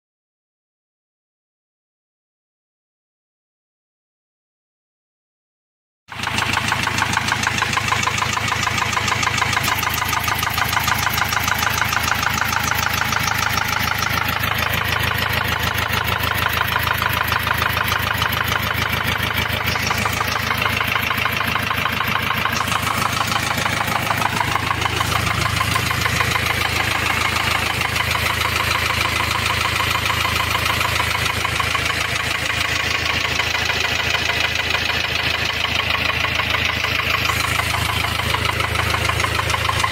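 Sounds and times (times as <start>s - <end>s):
diesel engine idling with clatter: 6.1s - 39.9s.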